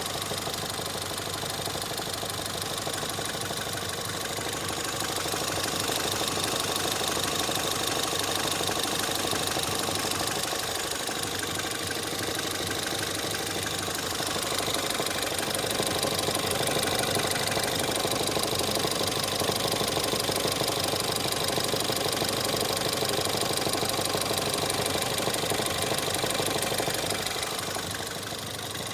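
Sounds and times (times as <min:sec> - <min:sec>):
car engine running with knocking: 0:00.0 - 0:28.9.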